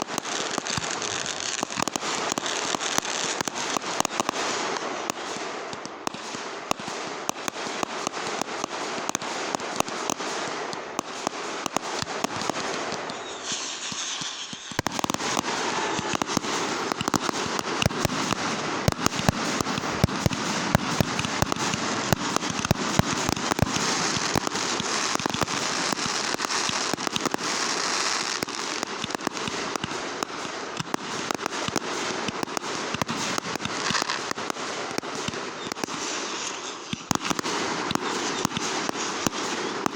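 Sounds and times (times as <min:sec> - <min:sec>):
fireworks cracking and popping: 0:00.0 - 0:39.9
heavy firework bangs: 0:00.0 - 0:39.9.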